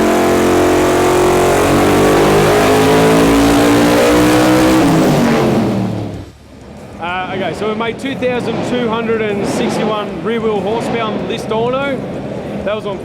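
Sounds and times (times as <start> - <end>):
loud car engine revving: 0.0 - 12.6.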